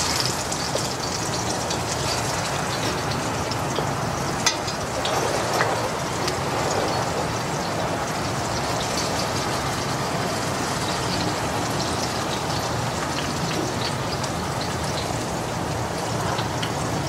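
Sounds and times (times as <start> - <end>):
frying in hot oil: 0.0 - 17.0.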